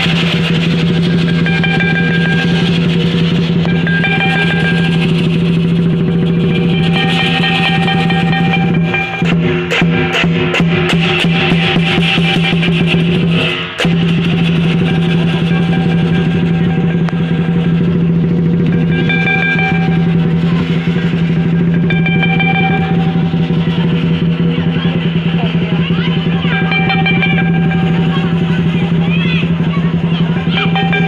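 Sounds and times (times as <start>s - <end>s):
clashing cymbals: 0.0s - 31.0s
large drum beating fast: 0.0s - 31.0s.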